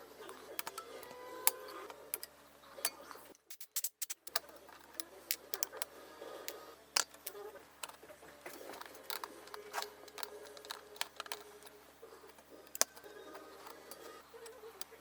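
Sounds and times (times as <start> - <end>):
small tools clicking and tapping: 0.2 - 15.0.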